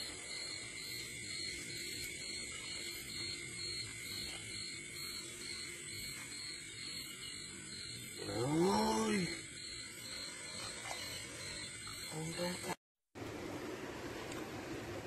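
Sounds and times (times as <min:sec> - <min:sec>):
night insects trilling: 0:00.0 - 0:12.8.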